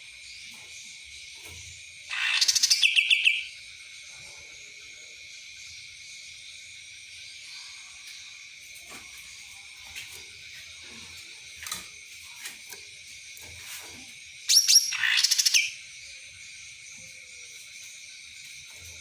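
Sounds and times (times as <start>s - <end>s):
high insect buzz: 0.0s - 19.0s.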